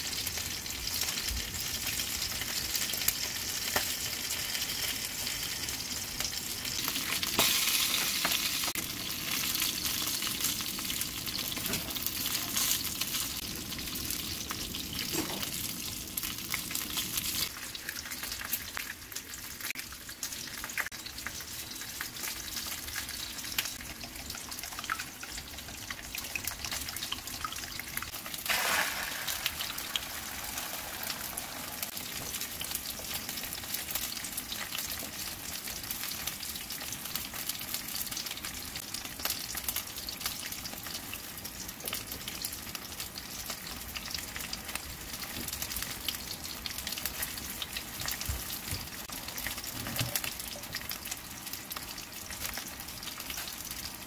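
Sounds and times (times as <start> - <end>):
egg sizzling in a frying pan: 0.0 - 54.0
frying hiss: 0.0 - 54.0.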